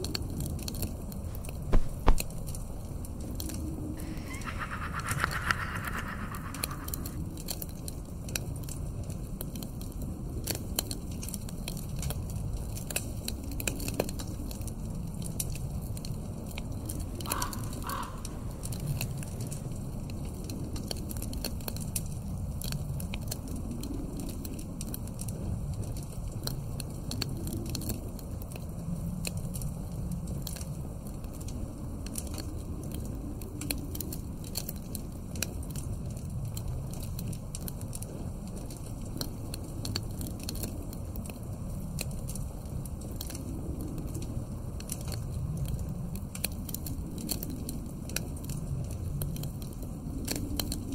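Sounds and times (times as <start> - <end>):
log fire crackling: 0.0 - 50.9
low wind: 0.0 - 50.9.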